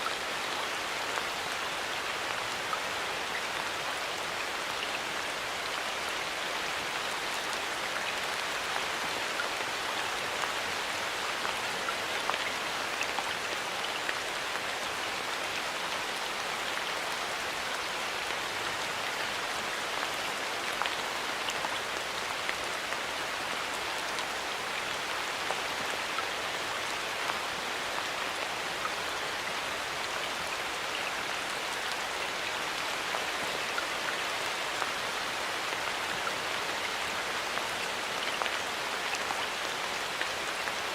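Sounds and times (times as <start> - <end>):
rain pattering in a forest: 0.0 - 40.9.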